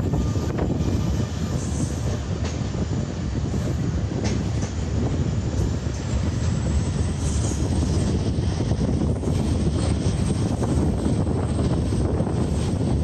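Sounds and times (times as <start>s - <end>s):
rail joint clicks: 0.0s - 13.0s
train wheels rumbling on rail: 0.0s - 13.0s.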